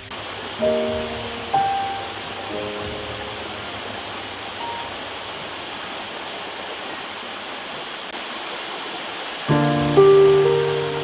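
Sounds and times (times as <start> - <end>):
waterfall rushing into a pool: 0.0 - 11.0.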